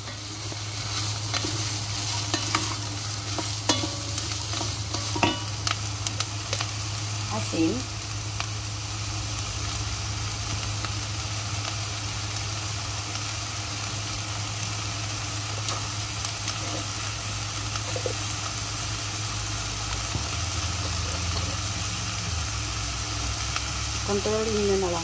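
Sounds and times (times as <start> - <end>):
vegetables sizzling in a pot: 0.0 - 25.0.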